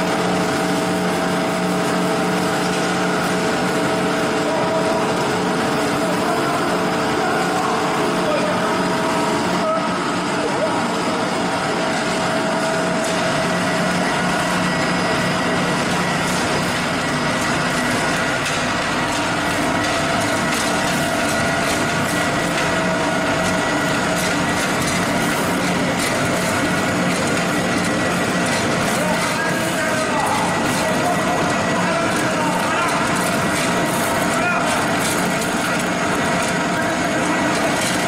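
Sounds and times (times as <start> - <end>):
pellet mill mechanical drone: 0.0 - 38.0.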